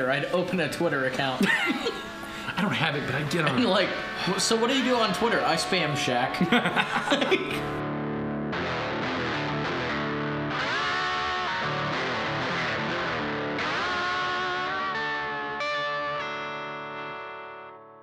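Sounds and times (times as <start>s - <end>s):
guitar riff with bent notes: 0.8s - 18.0s
ringing guitar chord: 1.4s - 17.8s.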